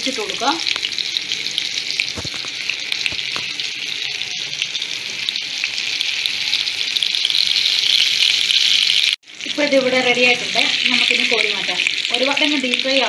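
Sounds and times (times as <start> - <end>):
vegetables frying in oil: 0.0 - 13.0.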